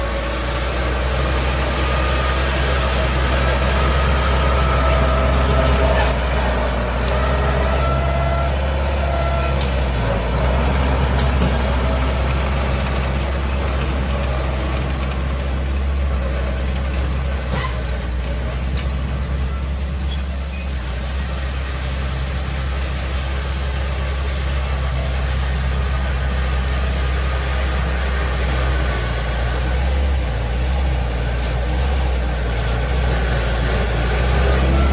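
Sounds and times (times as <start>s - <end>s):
heavy machinery diesel engine: 0.0s - 34.9s.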